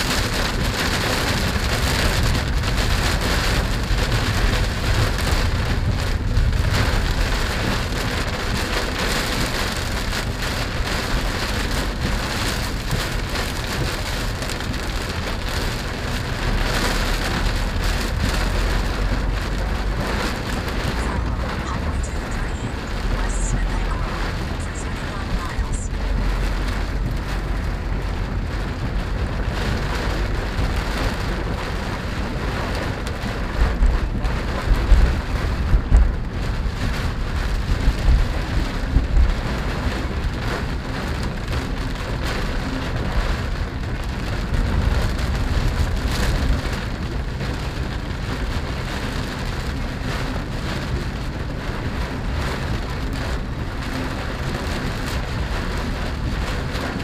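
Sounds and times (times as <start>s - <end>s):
rain on car roof and glass: 0.0s - 57.0s
road and engine rumble: 0.0s - 57.0s.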